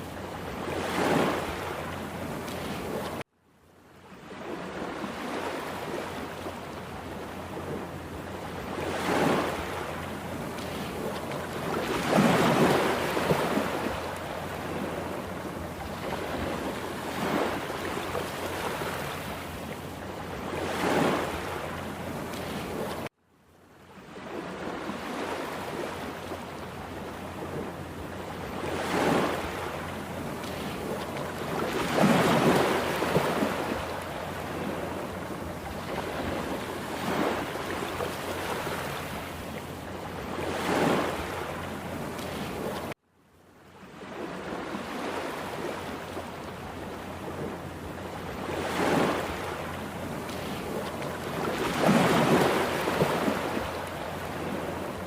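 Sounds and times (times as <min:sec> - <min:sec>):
steady wash of water: 0:00.0 - 0:03.3, 0:04.2 - 0:23.1, 0:24.1 - 0:43.0, 0:43.9 - 0:55.0
waves breaking: 0:00.0 - 0:03.3, 0:04.0 - 0:23.1, 0:23.9 - 0:43.0, 0:43.8 - 0:55.0.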